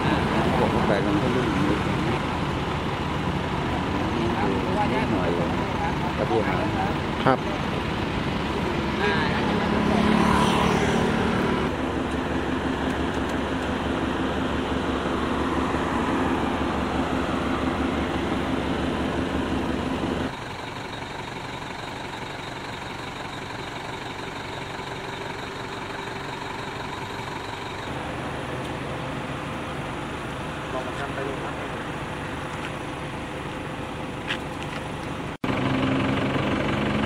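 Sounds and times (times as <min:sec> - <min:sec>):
car engine idling: 0:00.0 - 0:10.3, 0:11.2 - 0:37.0
road traffic noise: 0:00.0 - 0:37.0.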